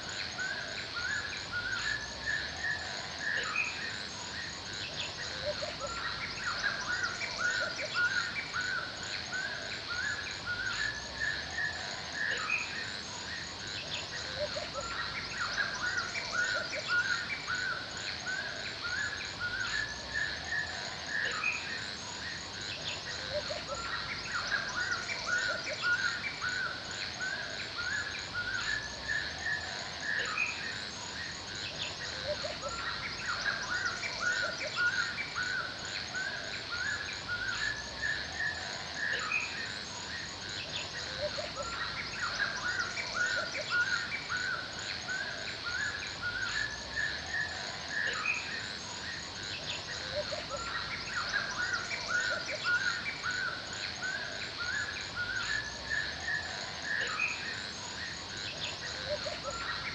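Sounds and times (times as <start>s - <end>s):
birds chirping: 0.2s - 59.9s.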